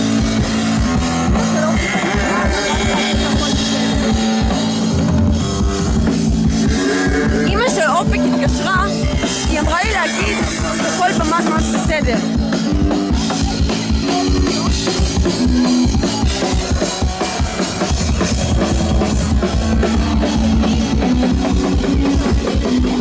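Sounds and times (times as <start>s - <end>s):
drum kit beat: 0.0s - 23.0s.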